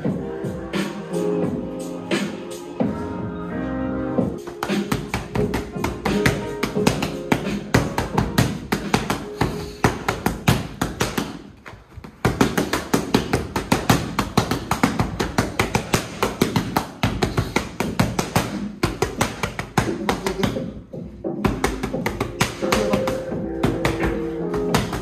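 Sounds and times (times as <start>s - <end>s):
background music: 0.0s - 25.0s
boxing gloves hitting mitts: 4.4s - 25.0s.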